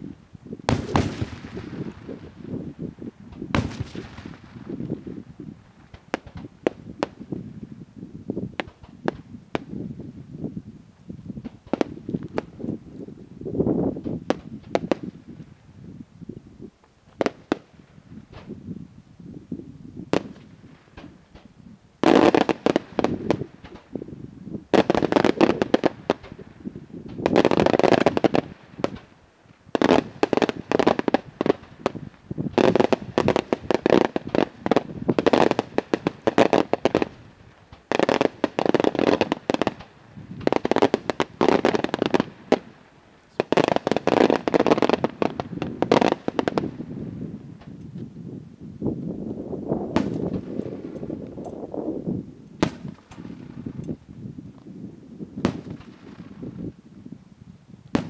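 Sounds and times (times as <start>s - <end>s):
fireworks bangs and crackling: 0.5s - 10.7s, 11.3s - 15.6s, 17.1s - 18.6s, 20.0s - 48.2s, 49.3s - 54.0s, 54.6s - 56.8s.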